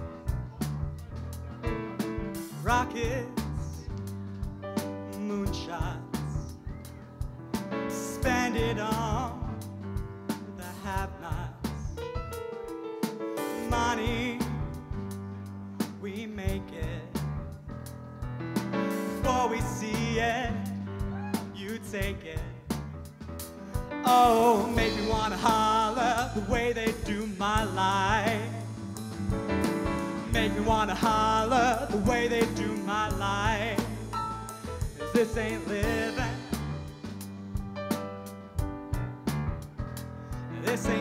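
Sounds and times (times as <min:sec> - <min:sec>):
live band music: 0:00.0 - 0:41.0.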